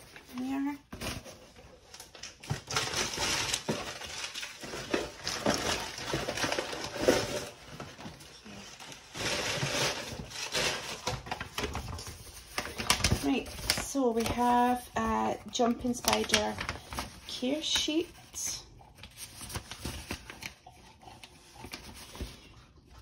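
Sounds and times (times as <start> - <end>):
paper crinkling and rustling: 0.0 - 23.0.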